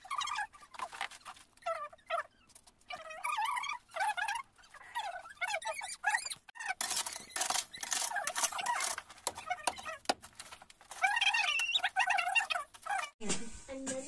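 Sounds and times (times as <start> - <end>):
high wavering squeaks: 0.0 - 10.0, 10.9 - 13.2.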